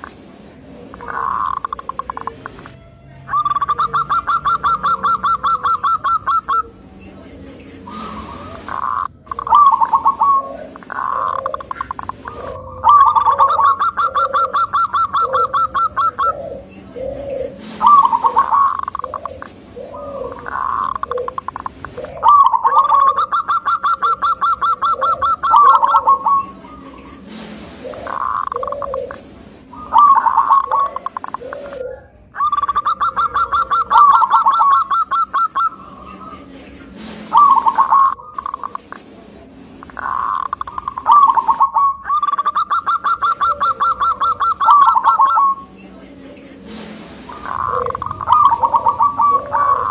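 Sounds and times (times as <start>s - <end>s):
dove calling short notes: 0.0s - 7.0s, 7.8s - 45.8s, 46.6s - 49.9s
soft low dove coos: 7.8s - 39.2s, 39.8s - 49.9s.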